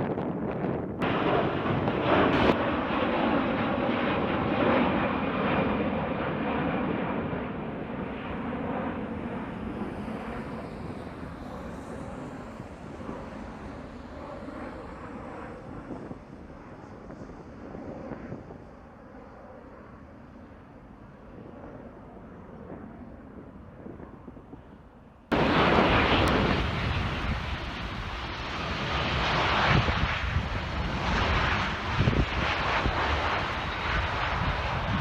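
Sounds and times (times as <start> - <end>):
wind buffeting microphone: 0.0 - 3.4, 6.3 - 19.2, 21.2 - 35.0
jet engine noise: 0.0 - 35.0.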